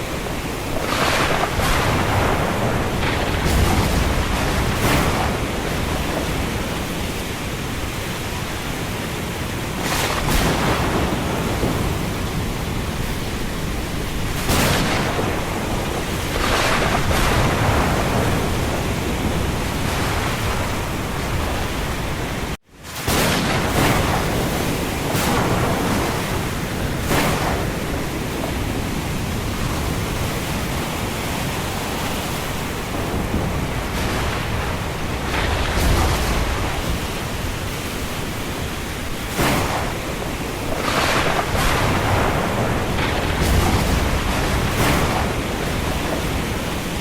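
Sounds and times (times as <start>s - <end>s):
rain: 0.0s - 47.0s
wind gusting: 0.0s - 47.0s.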